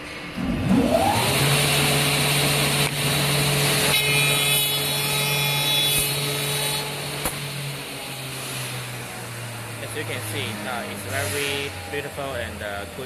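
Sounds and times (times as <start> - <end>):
woodworking machine motor whining: 0.0 - 13.0.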